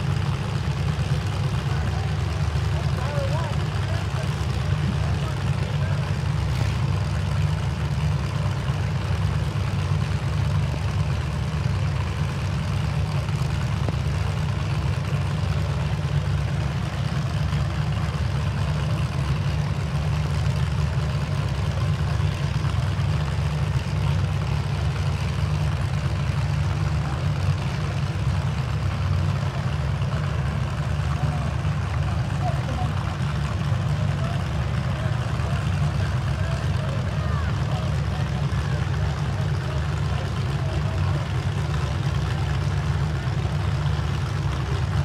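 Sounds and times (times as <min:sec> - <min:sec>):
truck engines idling: 0:00.0 - 0:45.0.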